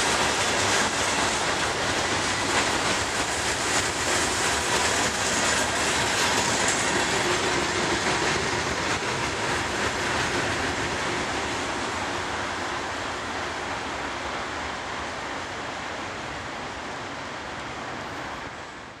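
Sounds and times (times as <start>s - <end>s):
freight train wheels rushing: 0.0s - 19.0s.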